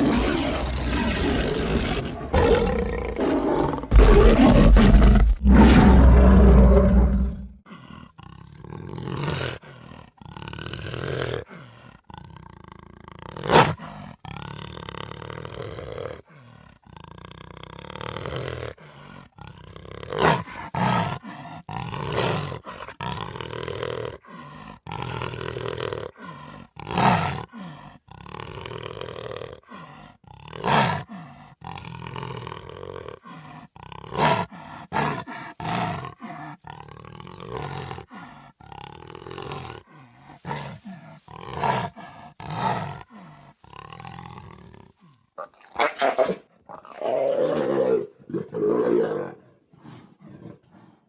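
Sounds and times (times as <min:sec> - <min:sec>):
big cats roaring and growling: 0:00.0 - 0:51.0.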